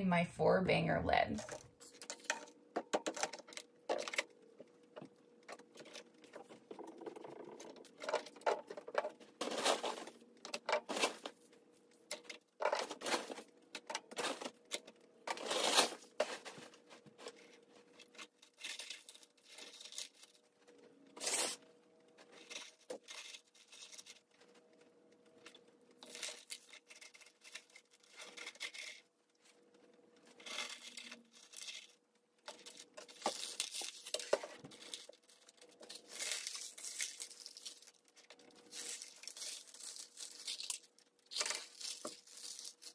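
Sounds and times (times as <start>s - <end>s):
clay pebbles rattling: 1.4s - 42.9s.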